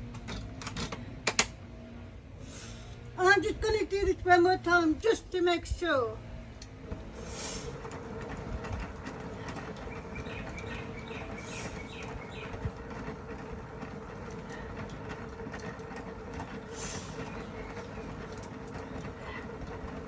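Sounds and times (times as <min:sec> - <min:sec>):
washing machine humming: 0:02.0 - 0:20.0.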